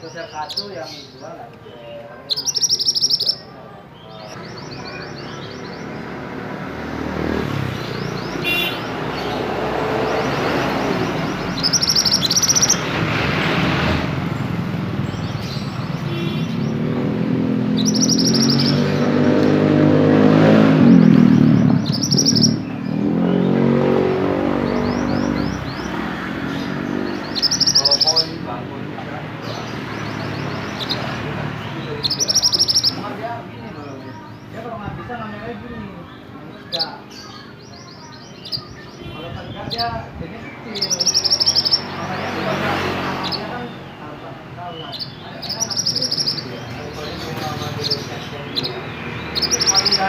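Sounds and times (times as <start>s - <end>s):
songbird high chirps: 0.0s - 13.1s, 14.1s - 34.6s, 36.0s - 50.0s
vehicle engine passing: 4.3s - 37.9s, 38.6s - 50.0s.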